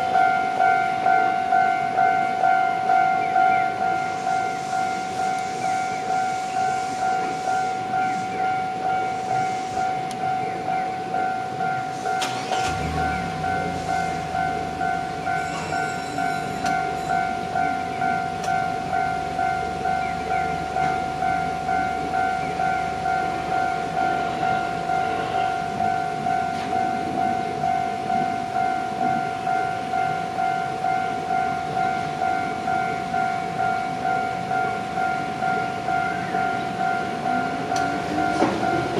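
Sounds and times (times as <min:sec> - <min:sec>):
electric train rumbling past: 0:00.0 - 0:38.9
level-crossing warning bell: 0:00.0 - 0:38.9.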